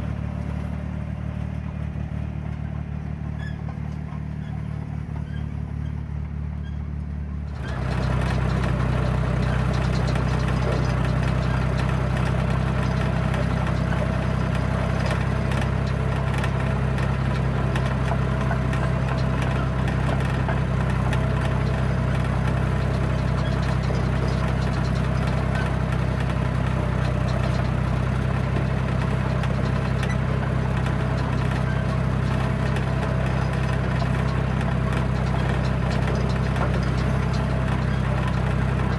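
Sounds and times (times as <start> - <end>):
diesel dozer engine running: 0.0 - 38.9.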